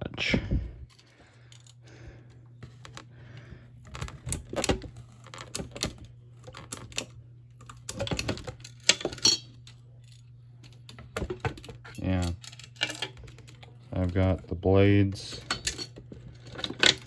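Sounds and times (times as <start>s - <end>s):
steady low hum: 0.0s - 17.0s
fan parts clattering: 0.9s - 17.0s.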